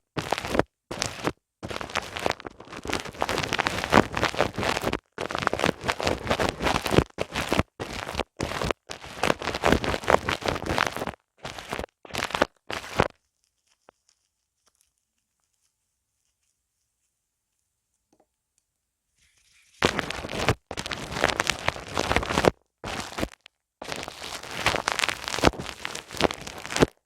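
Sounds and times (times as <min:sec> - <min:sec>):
hands rubbing against microphone: 0:00.2 - 0:17.2, 0:19.2 - 0:27.0.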